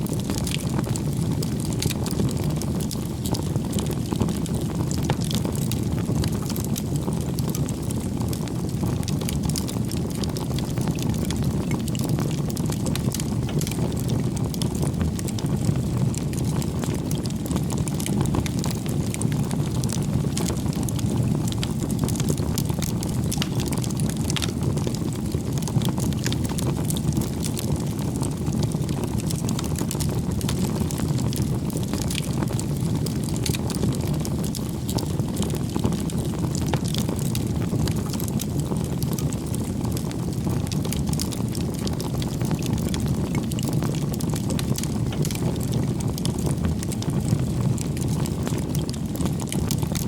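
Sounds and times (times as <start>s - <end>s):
bonfire flames rushing: 0.0s - 50.0s
burning wood crackling: 0.0s - 50.0s.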